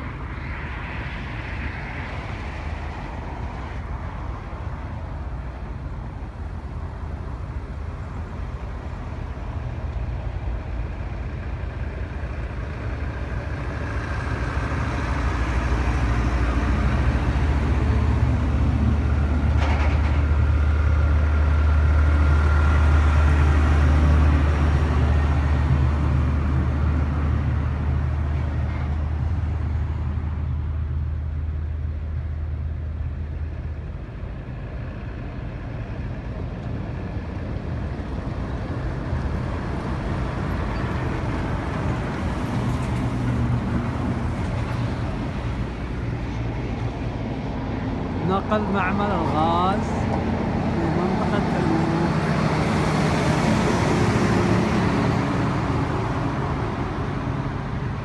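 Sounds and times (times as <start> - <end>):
trucks driving past rumbling: 0.0 - 58.0.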